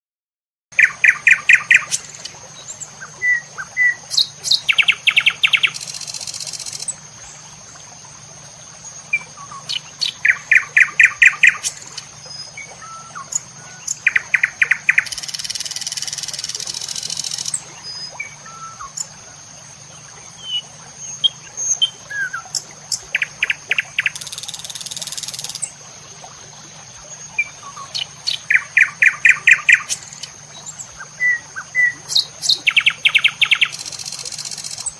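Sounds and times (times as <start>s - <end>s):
birds chirping: 0.7s - 25.8s, 26.7s - 34.9s.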